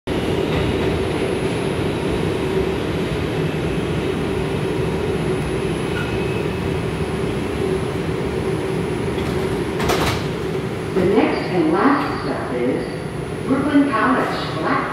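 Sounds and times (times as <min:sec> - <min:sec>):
subway car rumble and hum: 0:00.1 - 0:14.9.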